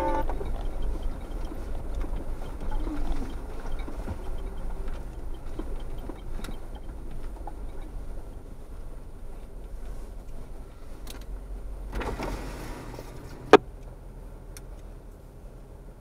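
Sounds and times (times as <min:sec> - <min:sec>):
vehicle engine and tyres rumble: 0:00.0 - 0:16.0.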